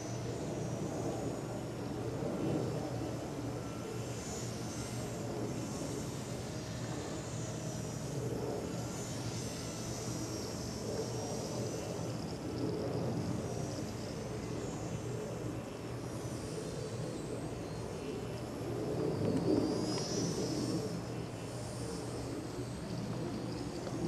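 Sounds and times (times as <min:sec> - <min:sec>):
small electric motor whine: 0:00.0 - 0:24.0.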